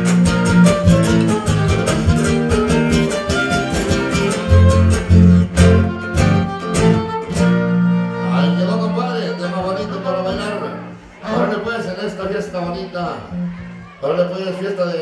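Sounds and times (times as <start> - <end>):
violin melody: 0.0 - 13.7
strummed guitars: 0.0 - 13.9.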